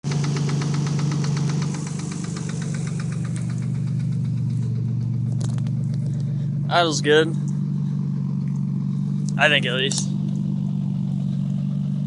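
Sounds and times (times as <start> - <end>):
car engine idling: 0.0 - 12.0
rapid valvetrain ticking: 0.2 - 10.8.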